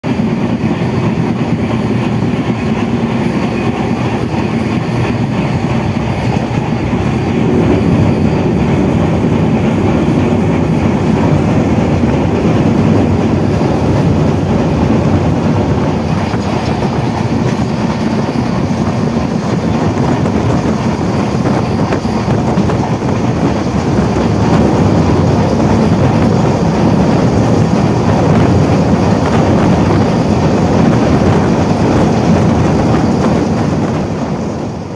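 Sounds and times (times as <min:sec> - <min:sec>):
train wheels running on rails: 0:00.0 - 0:34.9.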